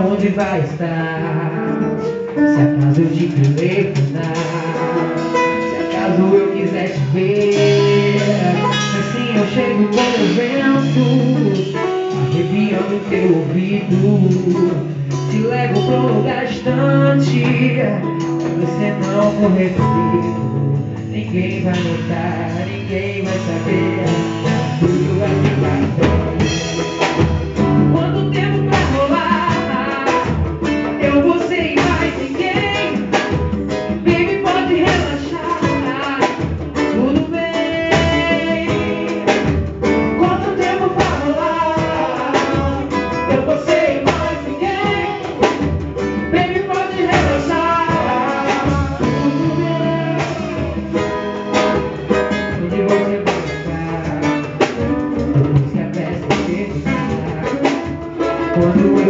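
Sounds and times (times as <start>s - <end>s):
drum kit playing: 0.0s - 59.0s
guitar playing: 0.0s - 59.0s
person singing: 0.0s - 59.0s.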